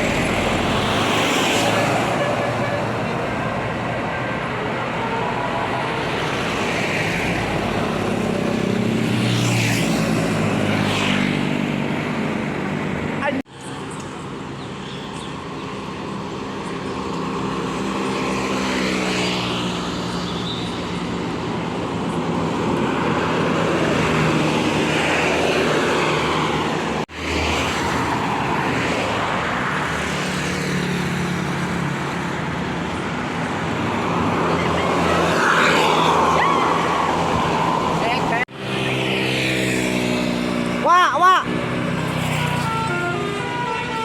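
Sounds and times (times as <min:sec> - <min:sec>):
bus diesel engines driving by: 0:00.0 - 0:44.0
road traffic noise: 0:00.0 - 0:44.0.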